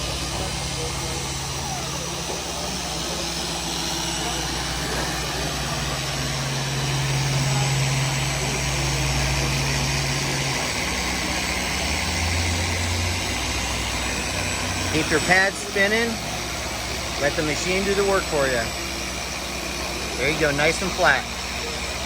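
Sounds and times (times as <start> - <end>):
orbital sanders running: 0.0 - 22.0.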